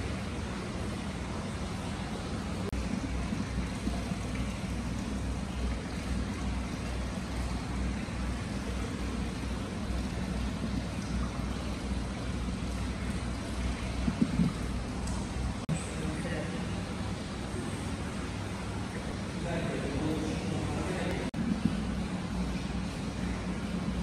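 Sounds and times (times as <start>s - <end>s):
water rushing into a bath: 0.0s - 24.0s.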